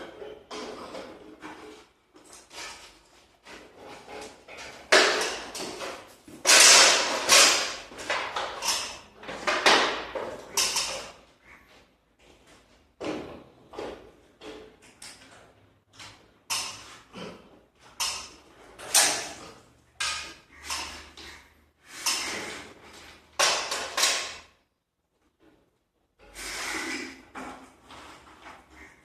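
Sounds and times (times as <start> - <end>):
knocks scrapes and rattles: 0.0 - 24.5, 26.2 - 29.0.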